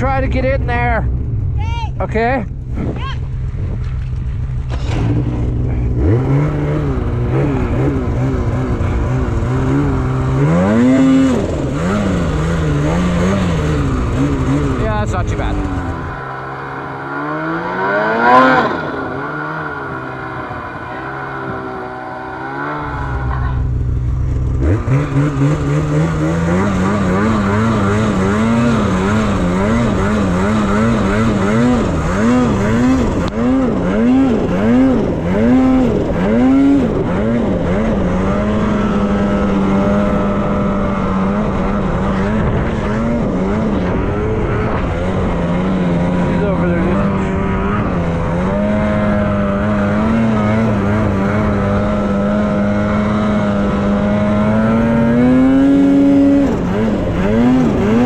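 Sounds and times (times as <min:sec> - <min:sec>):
snowmobile engine revving: 0:04.1 - 0:58.0.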